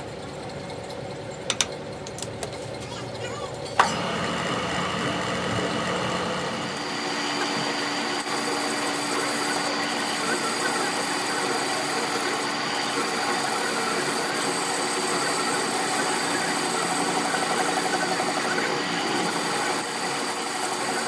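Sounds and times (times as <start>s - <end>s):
workshop machine running: 0.0s - 21.0s.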